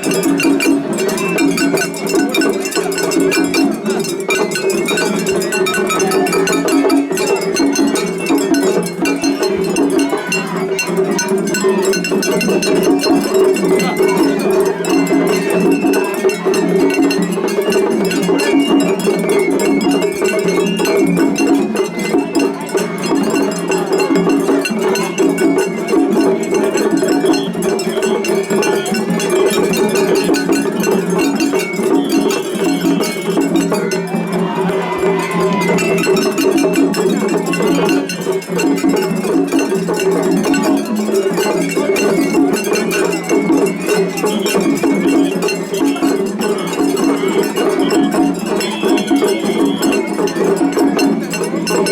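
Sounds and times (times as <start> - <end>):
festival music ensemble: 0.0 - 51.9.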